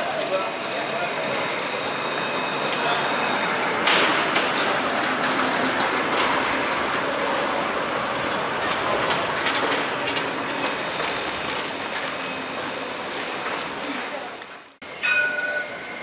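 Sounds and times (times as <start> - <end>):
tram rolling on rails: 0.0 - 16.0.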